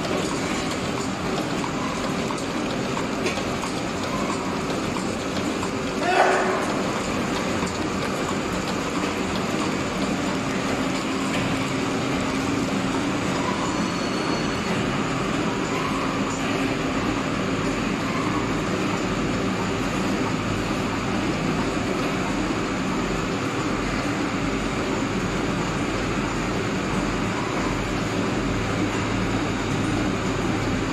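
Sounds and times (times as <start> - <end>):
packing machine running: 0.0 - 30.9.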